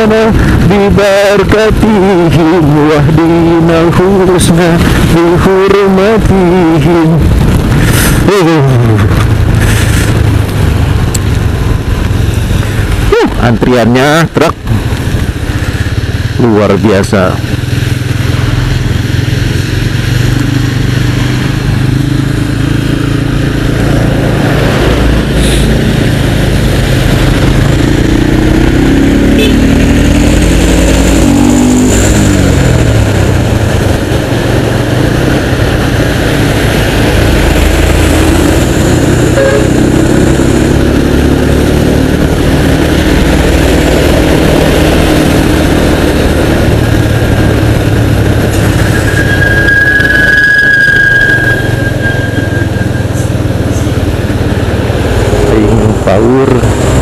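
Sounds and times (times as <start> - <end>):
wind noise: 0.0 - 16.4, 17.3 - 57.0
wet road noise: 0.0 - 57.0
motorcycle engine running: 8.8 - 57.0.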